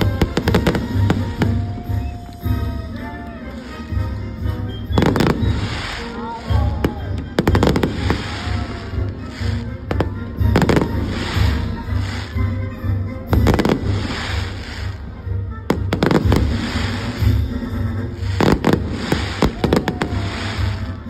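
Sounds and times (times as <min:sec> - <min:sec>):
fireworks bangs: 0:00.0 - 0:04.0, 0:04.8 - 0:12.5, 0:13.2 - 0:15.1, 0:15.7 - 0:21.0.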